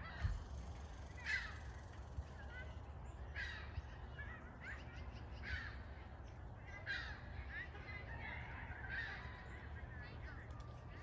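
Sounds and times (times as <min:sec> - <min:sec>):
gulls calling: 0:00.0 - 0:10.7.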